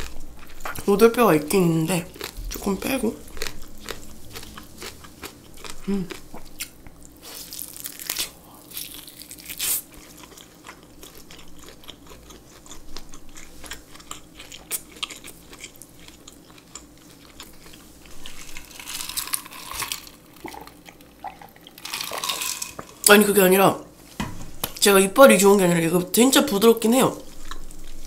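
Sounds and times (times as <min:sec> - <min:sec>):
close-miked chewing: 0:00.0 - 0:22.7, 0:27.2 - 0:28.0
food crunching: 0:00.0 - 0:23.2, 0:27.2 - 0:28.0.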